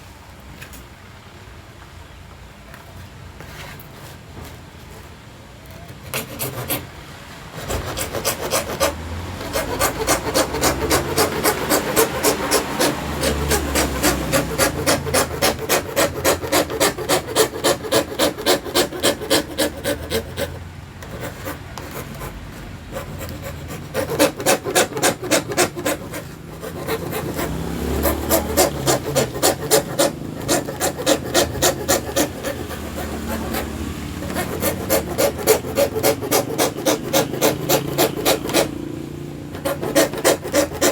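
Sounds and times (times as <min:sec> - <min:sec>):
handsaw cutting acrylic: 0:06.0 - 0:06.9, 0:07.5 - 0:40.9.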